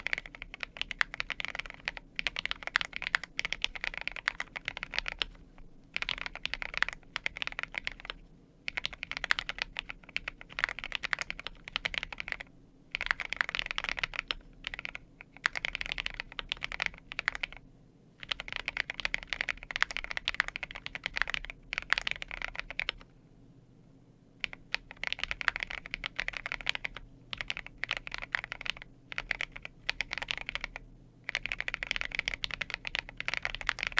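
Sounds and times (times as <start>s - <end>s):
mechanical keyboard typing: 0.0s - 17.6s, 18.2s - 23.1s, 24.4s - 33.9s.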